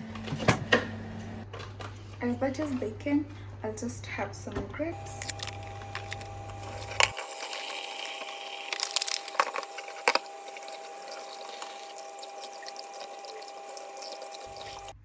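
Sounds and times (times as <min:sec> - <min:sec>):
water running: 0:02.2 - 0:15.0.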